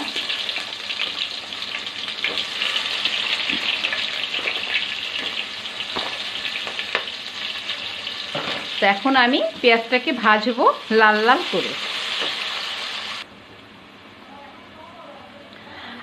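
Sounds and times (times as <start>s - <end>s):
onions sizzling in hot oil: 0.0s - 13.3s.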